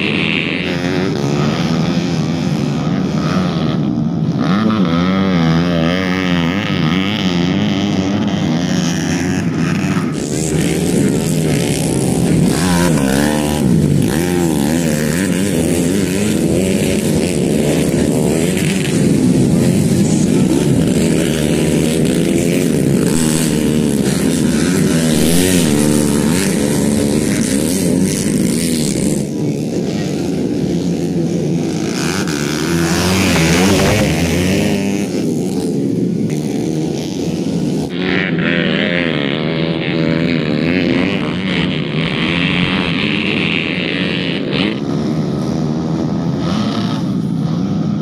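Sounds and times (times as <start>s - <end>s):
motorcycles revving: 0.0s - 48.0s.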